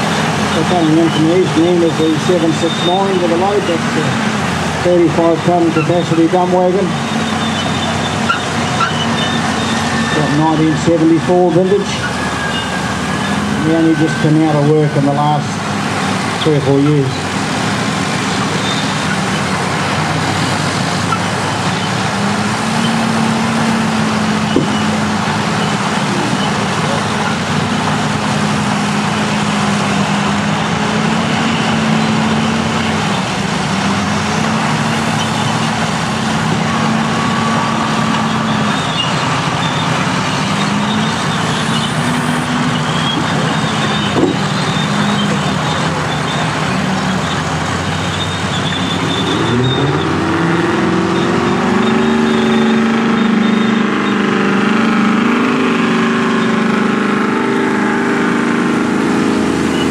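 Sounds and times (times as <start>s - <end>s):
engine revving up: 0.0s - 59.9s
heavy diesel engines running: 0.0s - 59.9s.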